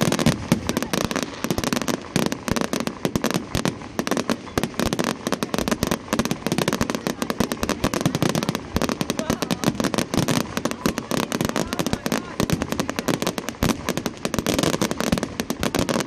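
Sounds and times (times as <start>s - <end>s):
fireworks cracking and banging: 0.0s - 16.0s.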